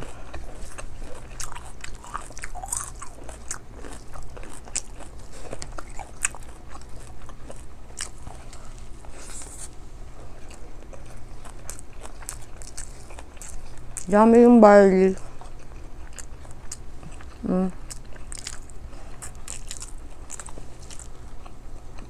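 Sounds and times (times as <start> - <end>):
person chewing with mouth sounds: 0.0 - 14.1, 15.1 - 22.0.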